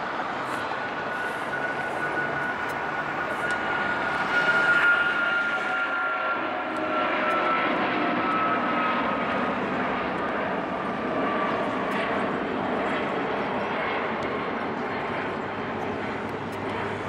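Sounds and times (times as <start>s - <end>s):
jet engines at takeoff power: 0.0s - 17.0s.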